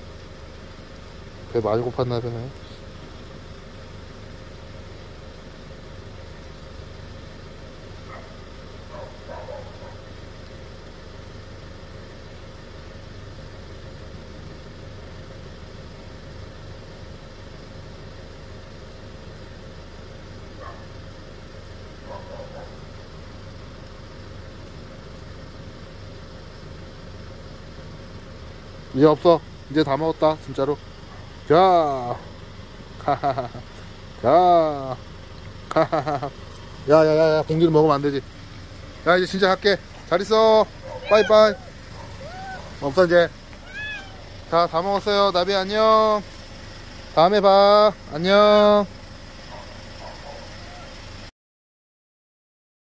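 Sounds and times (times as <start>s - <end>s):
engine idling: 0.0s - 51.3s.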